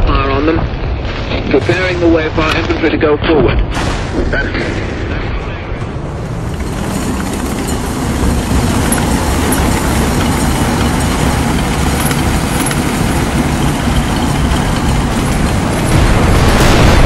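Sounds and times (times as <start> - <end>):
heavy vehicle engines rumbling: 0.0 - 17.0.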